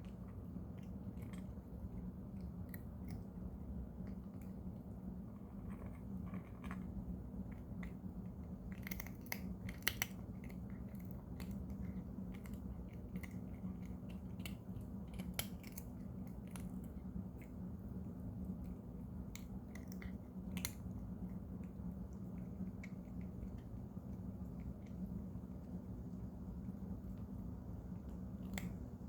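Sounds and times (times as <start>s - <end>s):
cat crunching treats: 0.0s - 29.0s
steady low hum: 0.0s - 29.0s.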